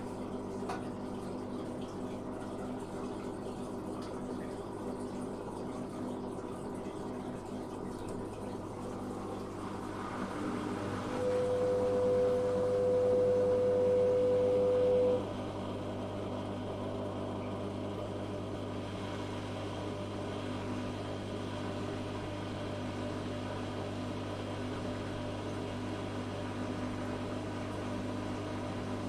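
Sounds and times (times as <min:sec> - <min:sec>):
washing machine high whine: 0:00.0 - 0:29.0
washing machine hum: 0:00.0 - 0:29.0.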